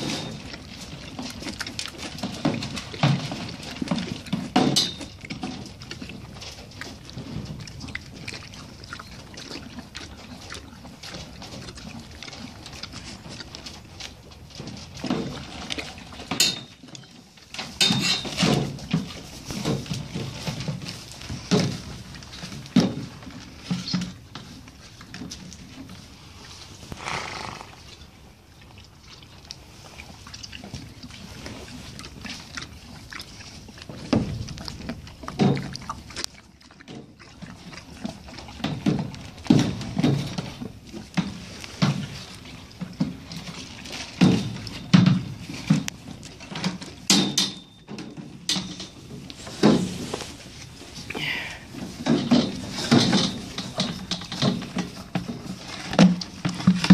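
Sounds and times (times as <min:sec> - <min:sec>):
horse chewing: 0:00.0 - 0:56.9.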